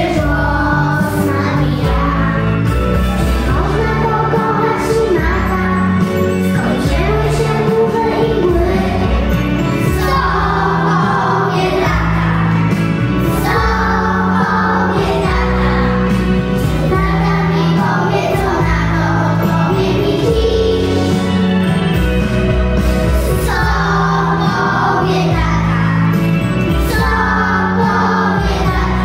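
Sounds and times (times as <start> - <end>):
children singing in unison: 0.0 - 21.5, 23.2 - 29.0
instrumental backing track: 0.0 - 29.0.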